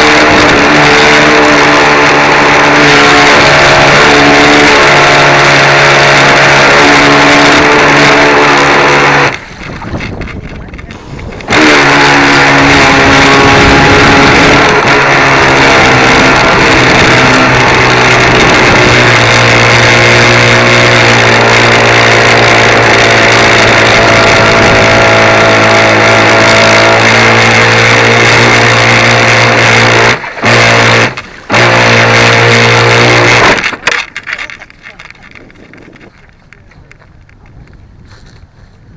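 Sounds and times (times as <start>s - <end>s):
electric boat motor running: 0.0s - 37.0s
water rushing against hull: 0.0s - 37.4s.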